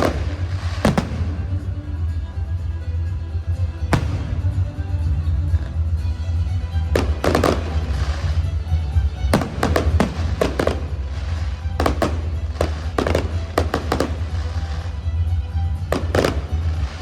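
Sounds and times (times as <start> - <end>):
fireworks bursting: 0.0 - 1.8, 3.5 - 6.0, 6.8 - 17.0
loud music with heavy bass: 0.0 - 17.0.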